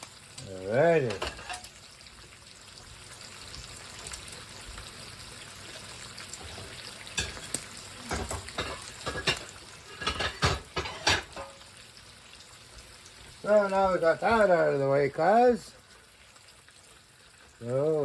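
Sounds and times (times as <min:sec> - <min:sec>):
bacon sizzling in a pan: 0:00.0 - 0:18.0.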